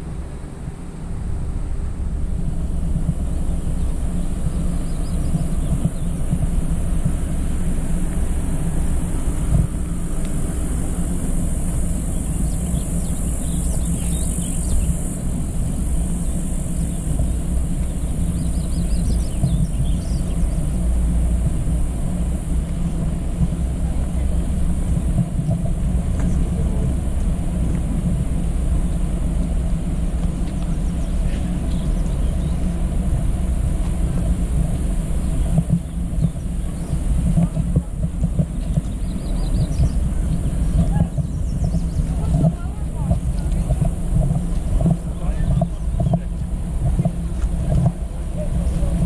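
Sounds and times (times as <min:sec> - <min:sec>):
low outdoor rumble: 0:00.0 - 0:49.0.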